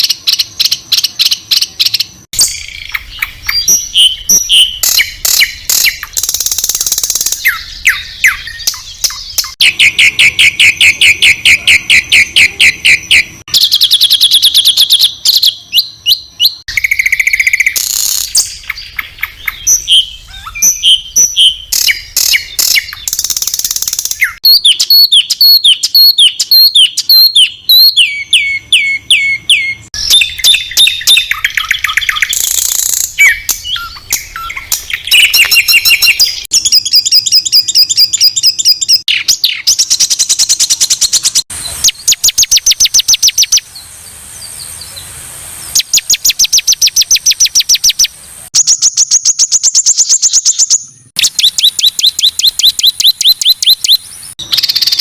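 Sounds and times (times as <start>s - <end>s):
songbird harsh calls and trills: 0.0s - 55.0s.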